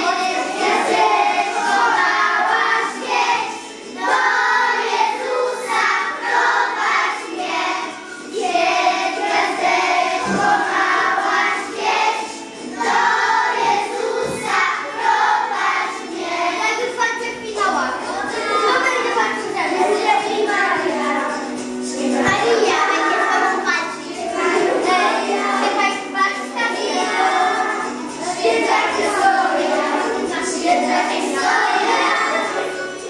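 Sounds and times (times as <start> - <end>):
children singing a carol: 0.0 - 33.0.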